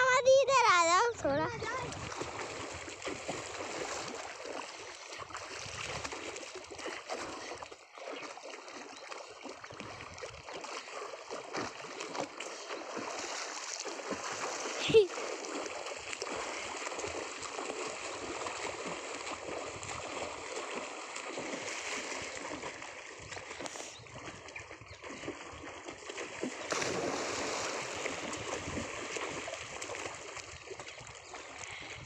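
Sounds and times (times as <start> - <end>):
water splashing and running: 0.0 - 32.0.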